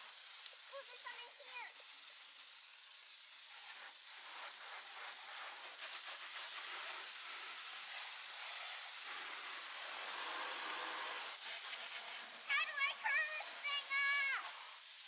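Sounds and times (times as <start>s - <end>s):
hose nozzle spray hissing: 0.0s - 15.0s.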